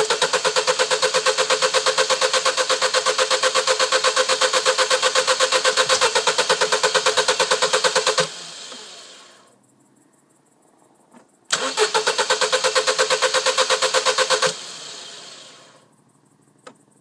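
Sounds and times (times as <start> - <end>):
starter motor cranking engine: 0.0 - 9.4, 11.5 - 15.8.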